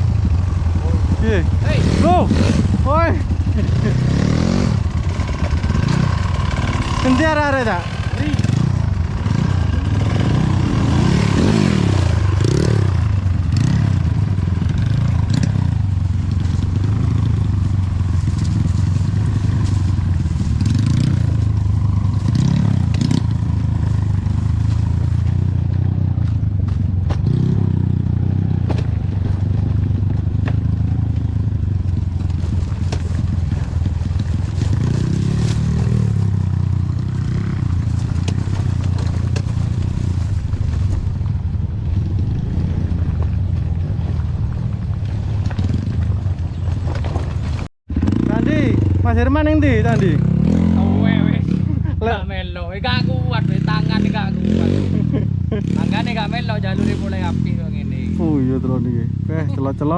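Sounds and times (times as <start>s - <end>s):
dirt bike engine revving: 0.0s - 44.6s, 47.9s - 59.9s.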